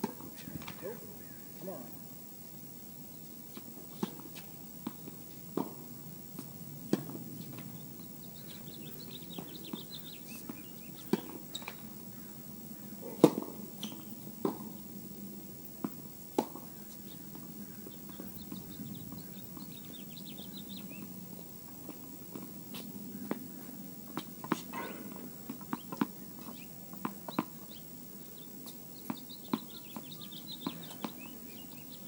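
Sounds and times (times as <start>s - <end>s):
tennis balls struck by rackets: 3.6s - 12.2s, 12.9s - 14.8s, 15.8s - 20.2s, 20.9s - 32.0s.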